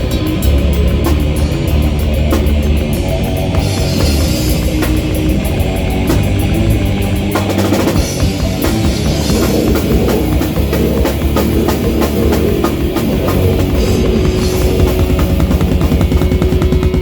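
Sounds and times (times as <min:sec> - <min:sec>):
distorted guitars: 0:00.0 - 0:17.0
live rock band playing: 0:00.0 - 0:17.0.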